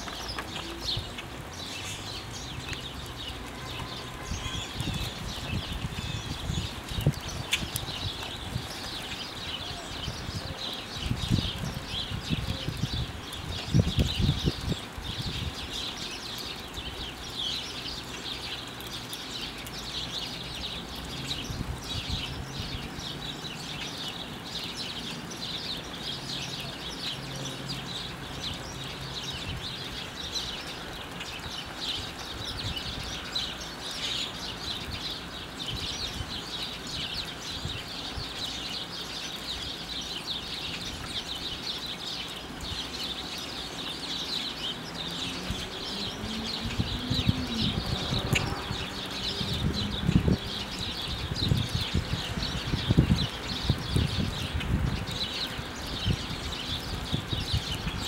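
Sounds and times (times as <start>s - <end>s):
flock of birds chirping: 0.0s - 58.0s.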